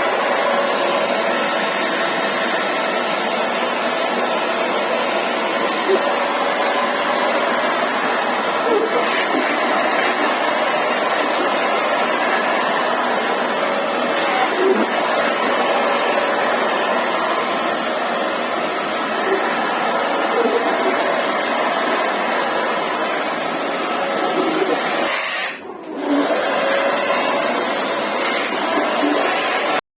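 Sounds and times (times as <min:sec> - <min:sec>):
vacuum cleaner motor whirring: 0:00.0 - 0:29.8.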